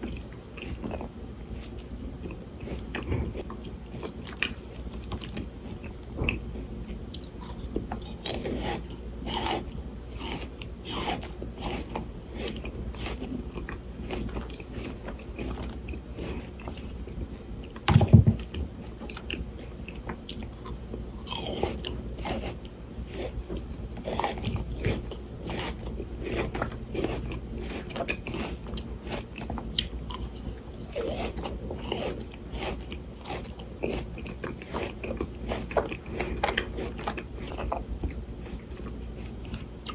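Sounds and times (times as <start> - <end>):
crunching frozen grapes: 0.0 - 39.9.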